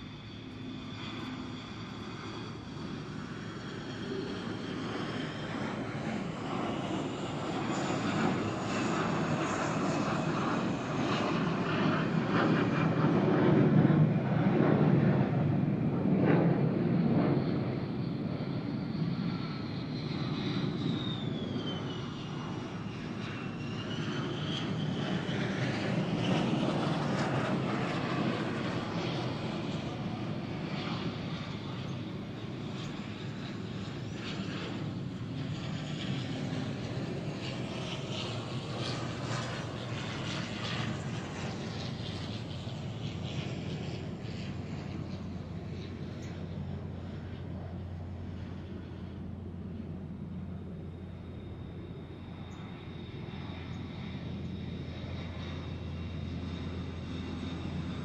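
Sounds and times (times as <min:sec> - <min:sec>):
high engine whine: 0:00.0 - 0:19.2, 0:19.8 - 0:58.0
military jet flying by low: 0:00.0 - 0:58.0.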